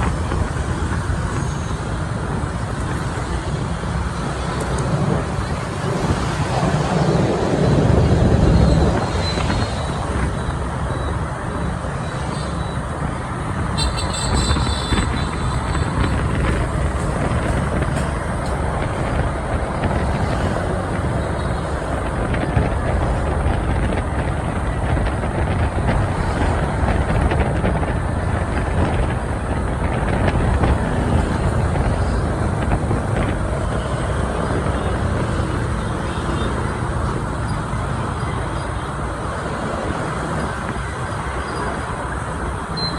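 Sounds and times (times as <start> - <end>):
motorbike and traffic noise: 0.0 - 42.9.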